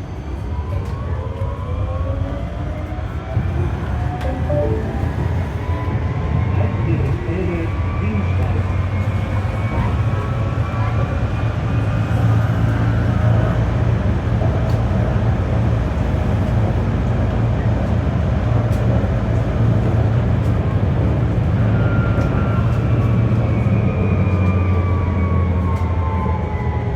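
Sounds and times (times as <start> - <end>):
tram wheels rumbling on rails: 0.0 - 26.9.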